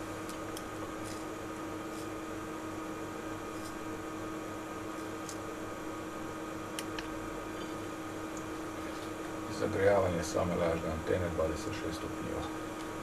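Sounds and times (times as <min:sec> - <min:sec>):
cooling fan hum and hiss: 0:00.0 - 0:13.0.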